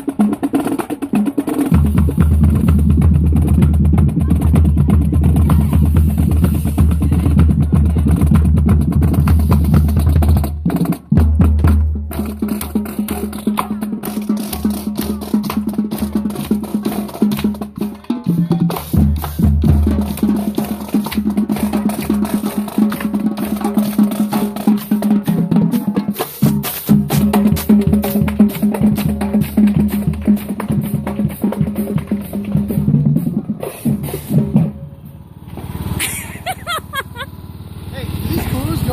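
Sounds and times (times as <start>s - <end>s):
snare drums rhythm: 0.0s - 34.8s.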